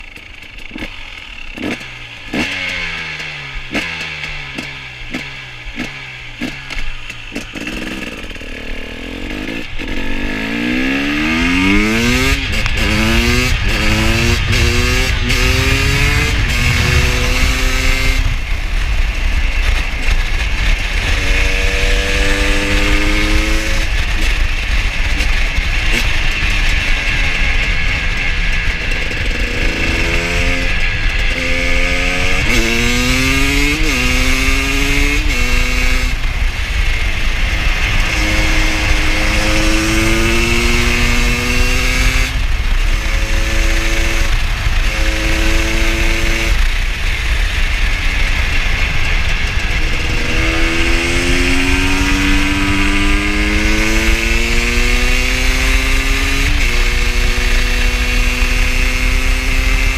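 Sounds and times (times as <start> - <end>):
motorcycle engine accelerating: 0.0 - 59.9
steady rushing noise: 0.0 - 59.9.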